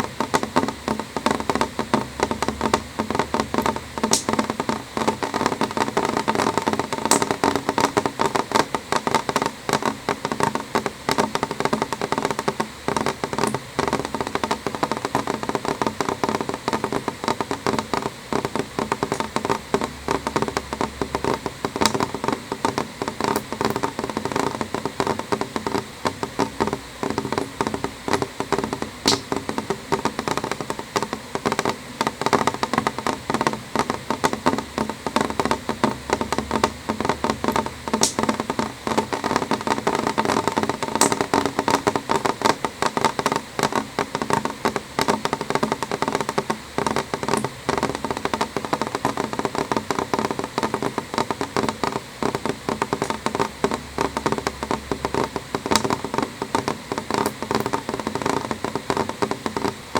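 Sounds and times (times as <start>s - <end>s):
rain tapping on window glass: 0.0s - 59.9s.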